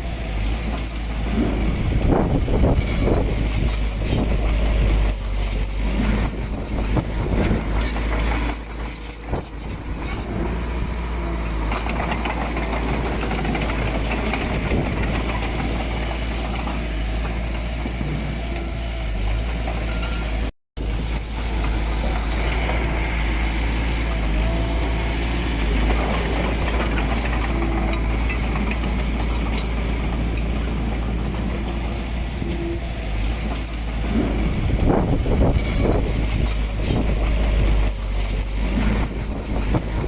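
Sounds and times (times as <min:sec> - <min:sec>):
heavy diesel machinery rumbling: 0:00.0 - 0:40.0.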